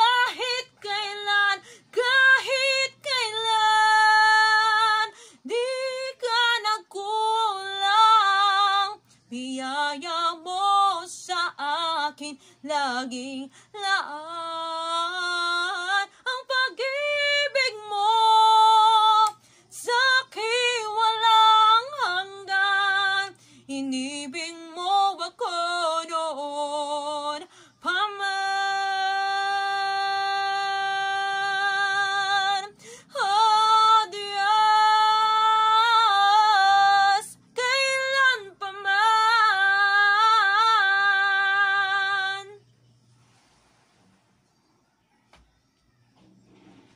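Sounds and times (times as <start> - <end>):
woman singing worship song: 0.0 - 42.8.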